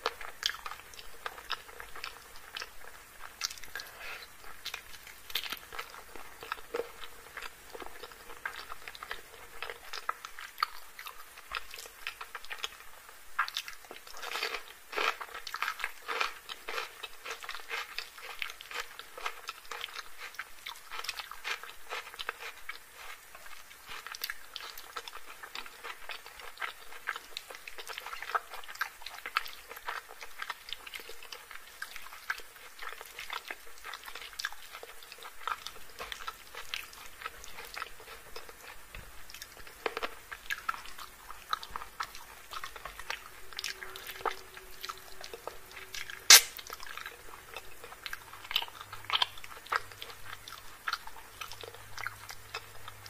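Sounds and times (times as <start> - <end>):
chewing and wet mouth sounds: 0.0 - 53.0.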